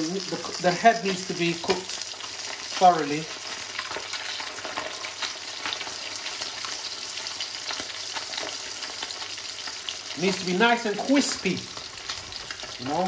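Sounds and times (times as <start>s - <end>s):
fish sizzling in oil: 0.0s - 13.0s
oil crackling and popping: 0.0s - 13.0s.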